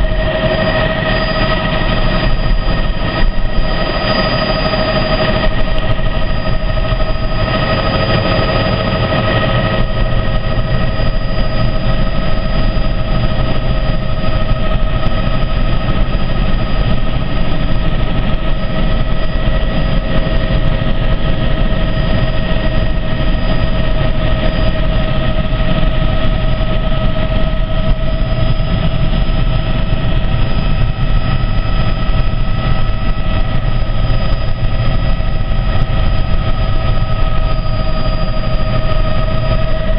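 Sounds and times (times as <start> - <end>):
helicopter engine and rotor rumble: 0.0 - 39.9
high whining tones: 0.0 - 39.9.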